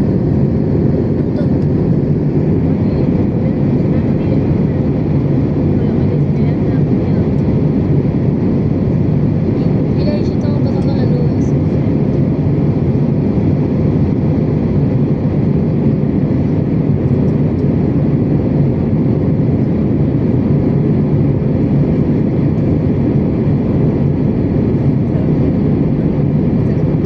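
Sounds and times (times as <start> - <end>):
airplane cabin engine drone: 0.0 - 27.0.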